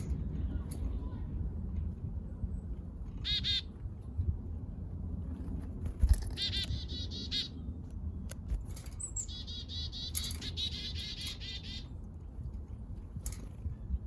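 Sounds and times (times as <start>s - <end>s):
low rumble: 0.0s - 14.0s
songbirds chirping: 0.0s - 14.0s.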